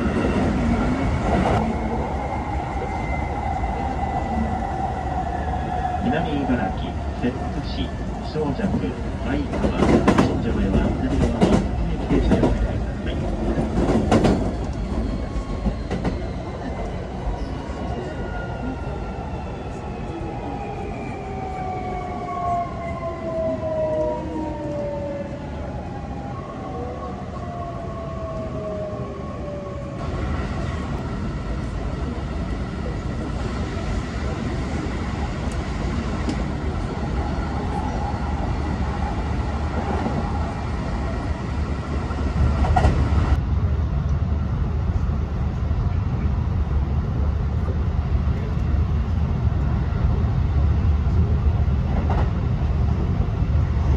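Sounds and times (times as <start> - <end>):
train rumbling at speed: 0.0 - 53.9.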